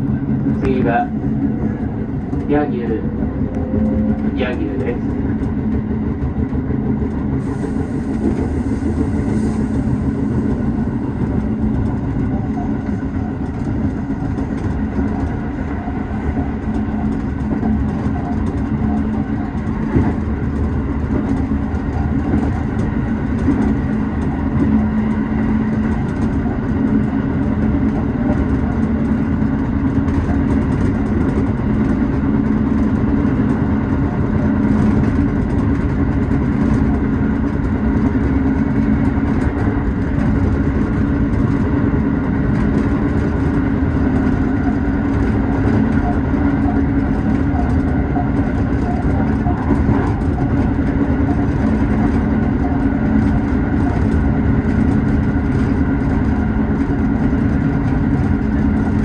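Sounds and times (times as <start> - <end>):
electric train running: 0.0 - 59.0.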